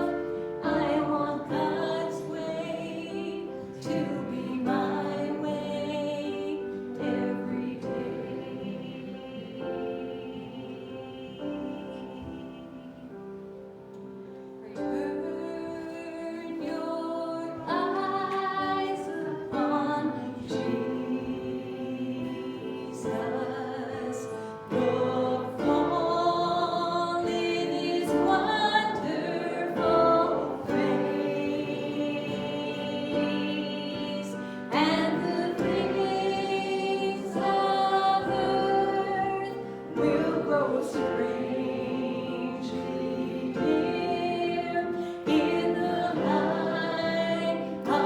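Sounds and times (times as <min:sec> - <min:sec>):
voices singing a hymn: 0:00.0 - 0:48.0.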